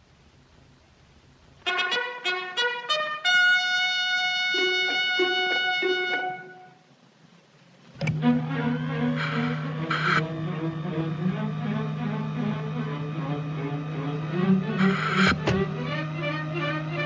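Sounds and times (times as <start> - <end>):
trumpet film score music: 1.6 - 7.0, 8.1 - 17.0.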